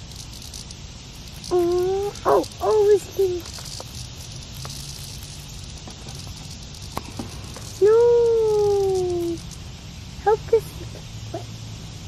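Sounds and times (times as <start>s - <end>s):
light crackling: 0.0s - 11.4s
faint outdoor hiss: 0.0s - 12.0s.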